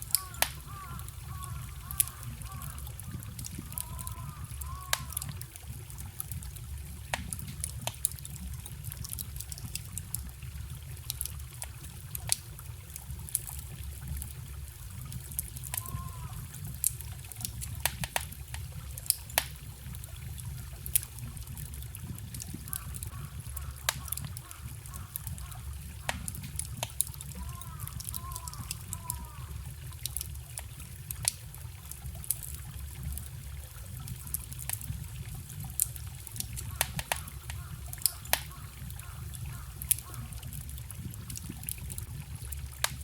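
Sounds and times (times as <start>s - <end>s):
campfire crackling and popping: 0.0s - 43.0s
stream rushing and trickling: 0.0s - 43.0s
water gurgling: 0.0s - 43.0s.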